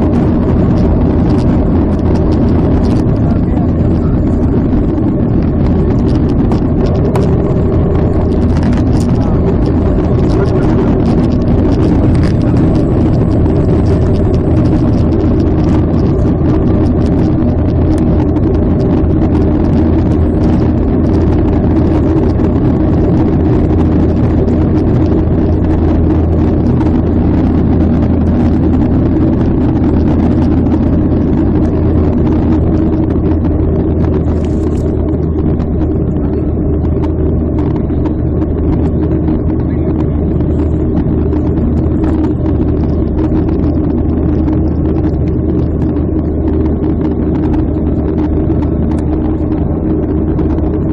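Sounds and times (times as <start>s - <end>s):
jet engines rumbling: 0.0s - 50.9s.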